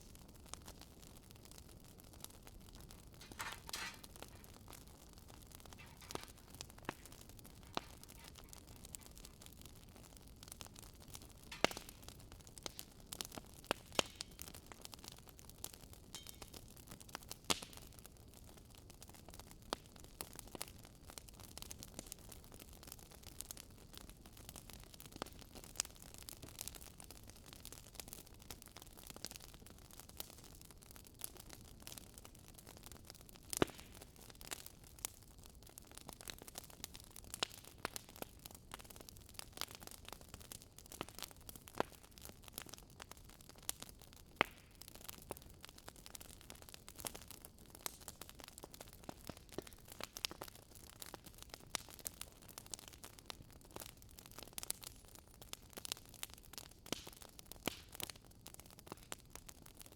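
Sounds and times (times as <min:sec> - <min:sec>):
soft hiss of fire: 0:00.0 - 0:59.5
wood fire crackling and snapping: 0:00.0 - 0:59.9.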